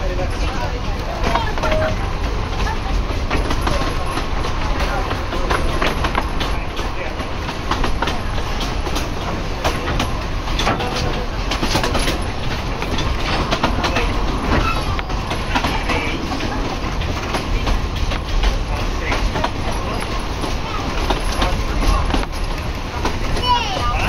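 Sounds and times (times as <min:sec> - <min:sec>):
train rumbling on track: 0:00.0 - 0:24.0
wheels clicking over rails: 0:00.0 - 0:24.0.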